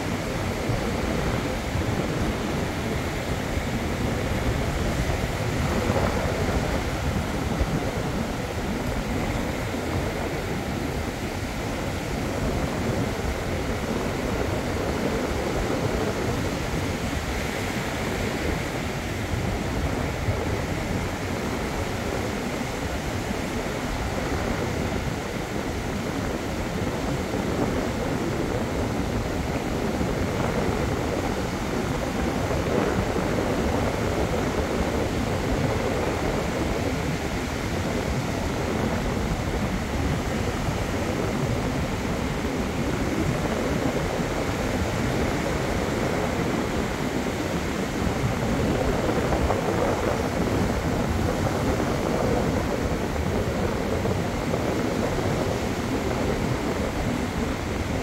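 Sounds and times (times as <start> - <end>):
ocean surf breaking: 0.0 - 58.0
wind rumbling on microphone: 0.0 - 58.0.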